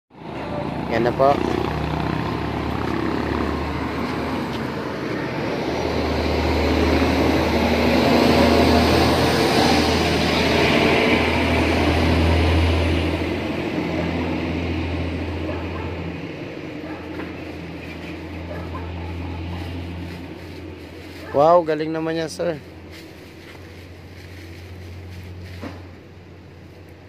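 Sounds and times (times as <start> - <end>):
low engine hum: 0.1 - 27.0
traffic passing close by: 0.1 - 27.0.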